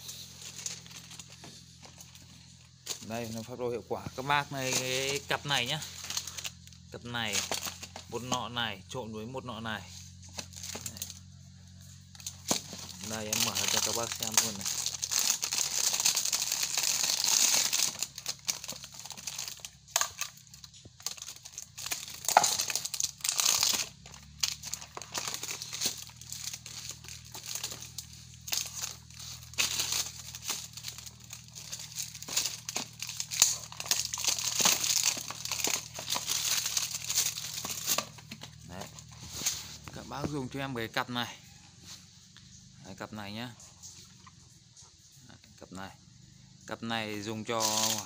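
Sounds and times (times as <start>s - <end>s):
plastic packaging crinkling: 0.0s - 8.7s, 10.1s - 40.5s, 47.4s - 48.0s.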